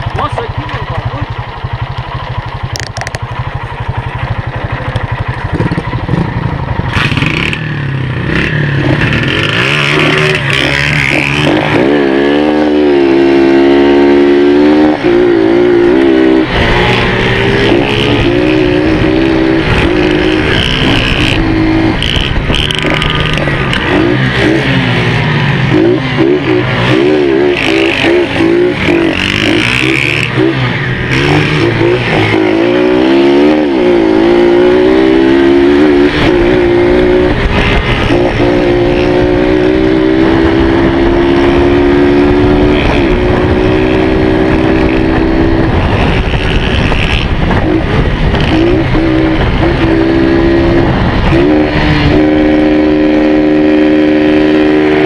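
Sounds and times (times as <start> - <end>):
dirt bike engine revving: 3.9 - 55.0.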